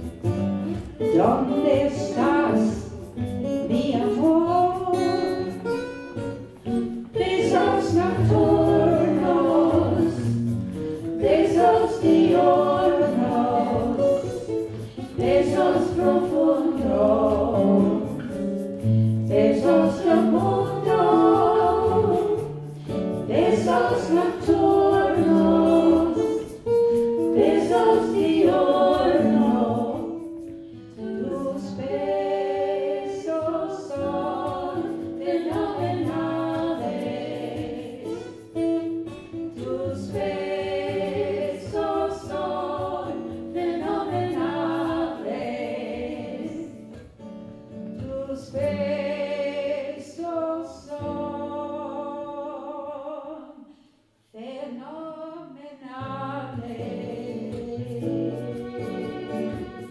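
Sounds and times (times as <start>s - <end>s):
acoustic guitar: 0.0s - 59.9s
women singing together: 0.6s - 5.7s, 6.8s - 47.2s, 47.9s - 59.9s.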